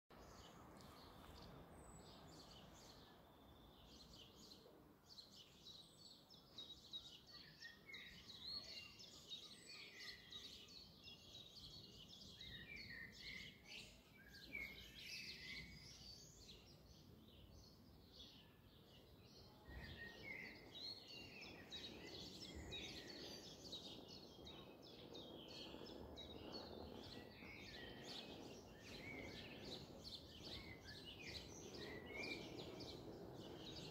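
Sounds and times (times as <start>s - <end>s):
songbirds chirping and singing: 0.1s - 33.9s.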